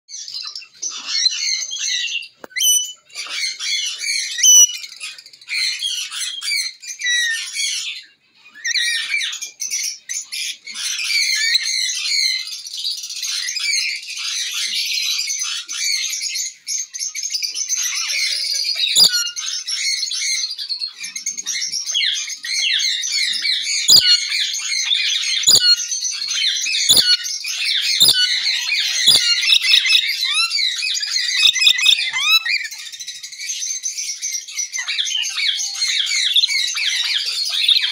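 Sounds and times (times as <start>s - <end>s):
lorikeets chattering: 0.1s - 37.9s.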